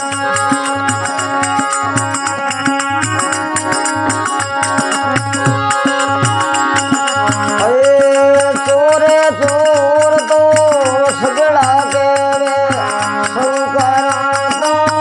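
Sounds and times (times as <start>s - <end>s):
dholak drum beating: 0.0s - 15.0s
harmonium: 0.0s - 15.0s
jingling hand cymbals: 0.0s - 15.0s
man singing long notes: 0.0s - 15.0s.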